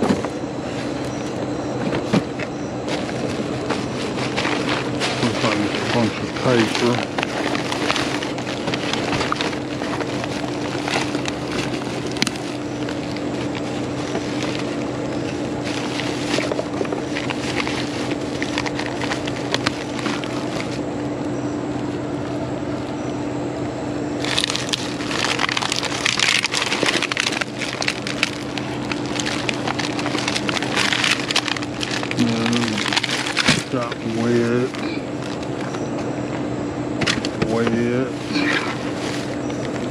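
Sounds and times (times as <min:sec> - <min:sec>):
wrappers and boxes shifting: 0:00.0 - 0:20.9, 0:24.2 - 0:36.4, 0:37.0 - 0:39.9
plastic trash bags rustling: 0:00.0 - 0:23.1, 0:24.1 - 0:39.9
steady low hum: 0:00.0 - 0:39.9.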